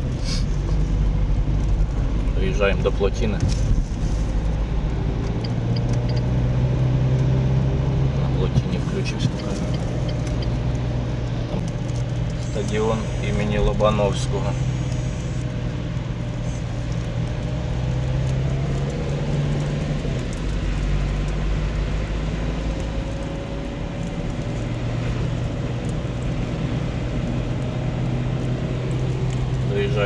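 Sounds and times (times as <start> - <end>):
car engine hum: 0.0 - 30.0
road and tyre noise: 0.0 - 30.0.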